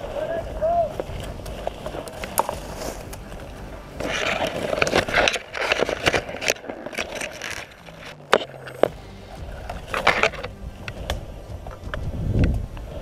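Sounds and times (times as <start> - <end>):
leaves and twigs rustling: 0.0 - 13.0
twigs snapping: 0.9 - 12.9.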